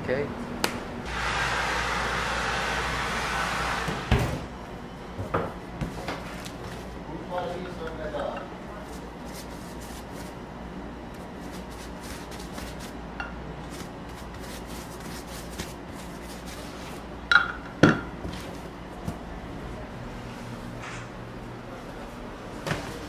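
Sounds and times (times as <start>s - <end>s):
kitchen hum: 0.0s - 23.0s.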